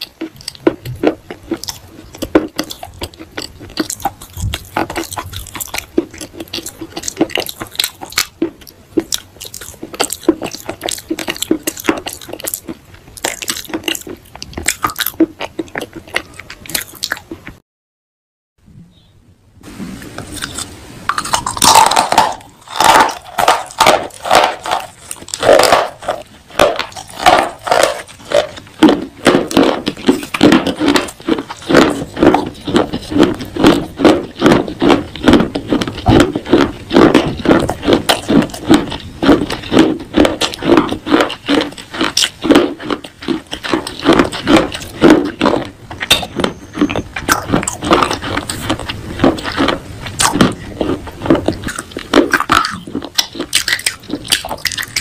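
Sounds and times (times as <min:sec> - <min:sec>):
crunching and chewing clay: 0:00.0 - 0:17.6, 0:20.2 - 0:55.0.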